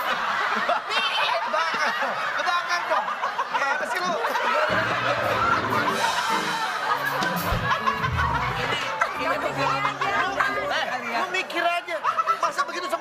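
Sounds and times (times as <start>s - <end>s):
crowd laughing: 0.0s - 13.0s.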